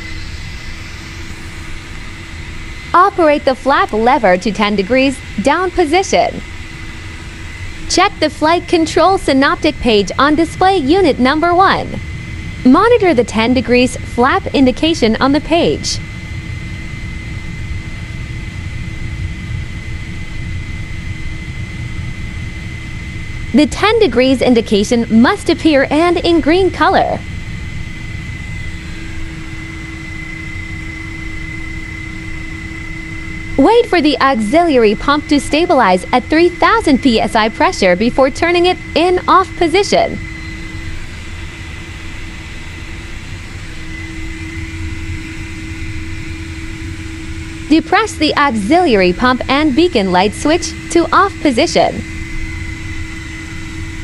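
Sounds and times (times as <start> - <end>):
constant whining tones: 0.0 - 54.0
low machinery rumble: 0.0 - 54.0.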